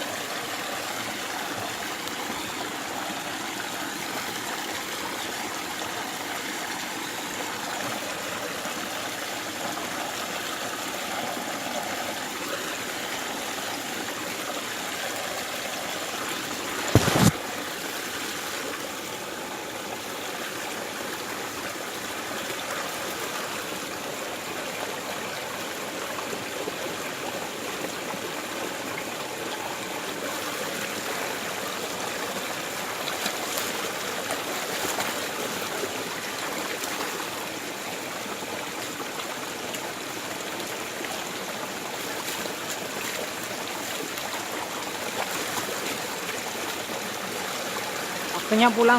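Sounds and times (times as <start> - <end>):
stream water rushing and trickling: 0.0 - 48.9.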